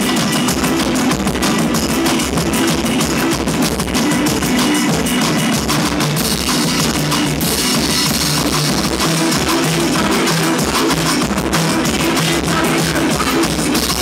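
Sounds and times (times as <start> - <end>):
drums and cymbals: 0.0 - 14.0
live rock band playing: 0.0 - 14.0.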